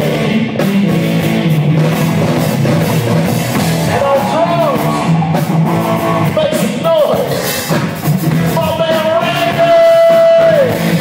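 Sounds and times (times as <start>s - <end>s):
drum kit: 0.0s - 11.0s
electric guitar: 0.0s - 11.0s.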